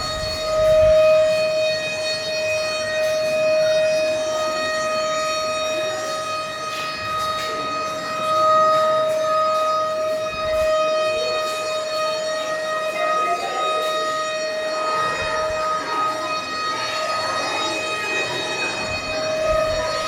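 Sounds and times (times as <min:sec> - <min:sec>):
alarm siren steady tone: 0:00.0 - 0:20.0
faint voices: 0:00.0 - 0:20.0.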